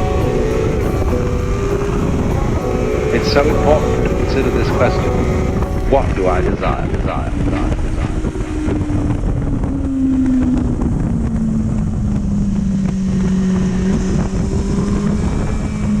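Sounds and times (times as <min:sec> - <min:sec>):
motorcycle engine running: 0:00.0 - 0:06.4, 0:07.5 - 0:16.0
wind buffeting microphone: 0:00.0 - 0:16.0.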